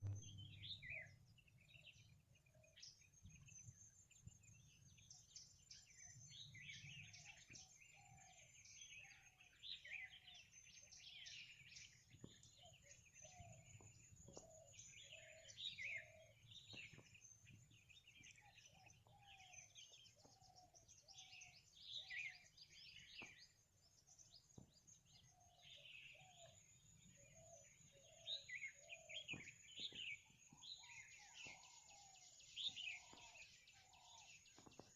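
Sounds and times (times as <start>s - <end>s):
birds chirping and trilling: 0.0s - 34.9s.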